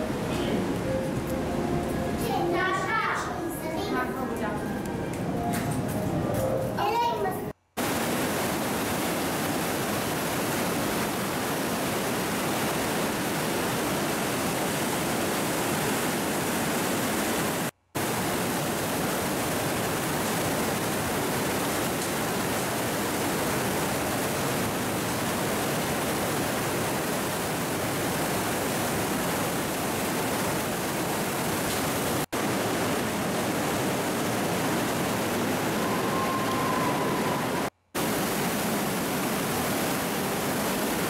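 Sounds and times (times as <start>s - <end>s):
river rushing over boulders: 7.8s - 41.0s.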